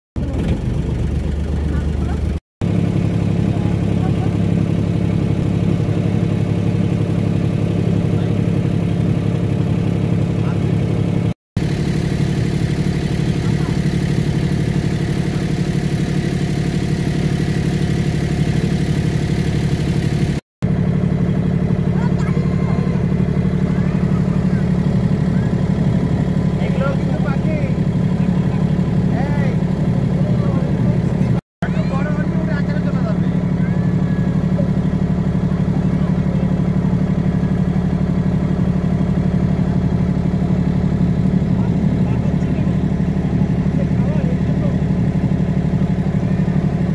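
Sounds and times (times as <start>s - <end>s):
boat motor running: 0.2s - 46.9s.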